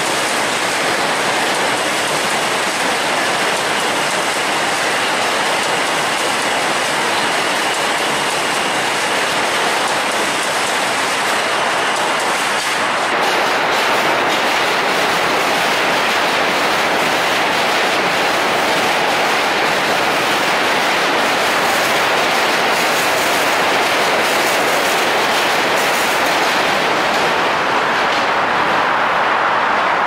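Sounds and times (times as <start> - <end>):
subway train on tracks: 0.0 - 30.0.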